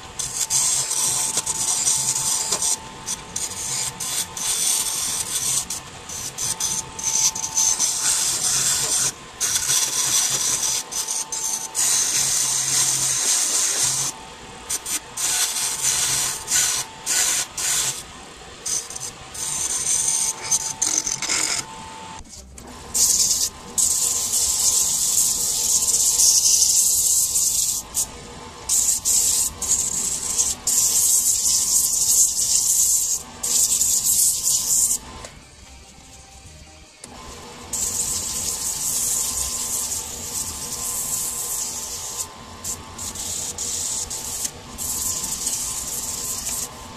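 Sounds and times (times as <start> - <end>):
wood lathe rasping hiss: 0.0 - 46.9.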